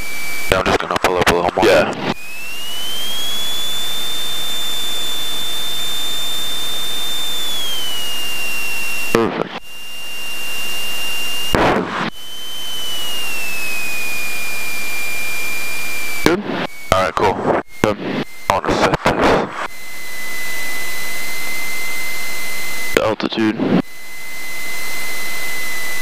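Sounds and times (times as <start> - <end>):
aircraft engine whine: 1.4 - 18.6, 19.5 - 23.0, 23.6 - 26.0.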